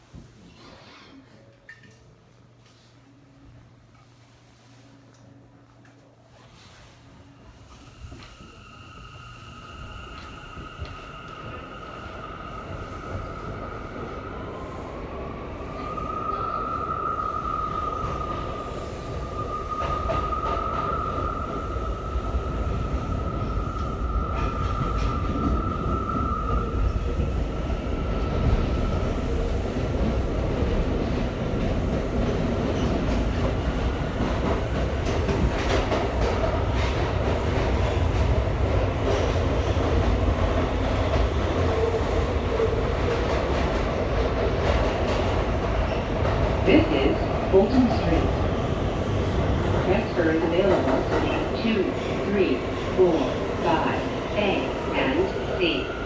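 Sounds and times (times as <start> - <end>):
subway wheels rumbling on rail: 2.4 - 56.0.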